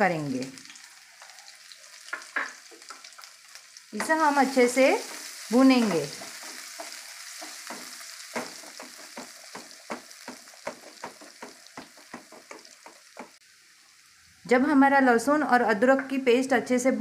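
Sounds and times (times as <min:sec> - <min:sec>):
garlic sizzling in oil: 0:00.0 - 0:16.4.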